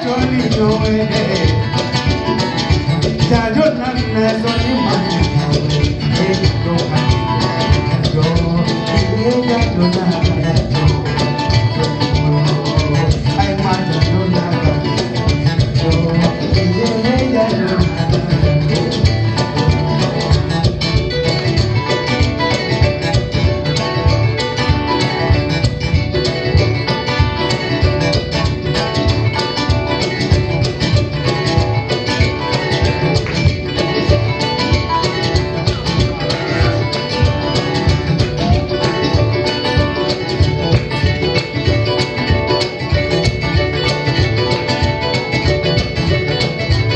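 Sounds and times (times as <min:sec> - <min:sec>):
acoustic guitar plucking: 0:00.0 - 0:46.9
harp-lute plucking: 0:00.0 - 0:46.9.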